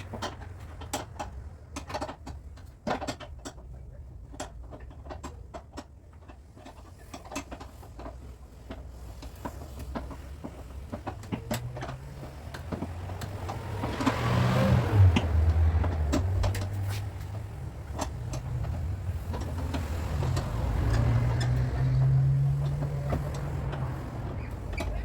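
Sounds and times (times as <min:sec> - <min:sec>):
light clicks and knocks: 0:00.0 - 0:25.0.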